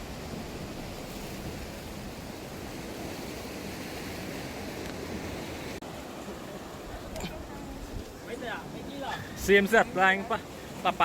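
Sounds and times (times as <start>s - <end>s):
sea surf on rocky shore: 0.0s - 11.0s.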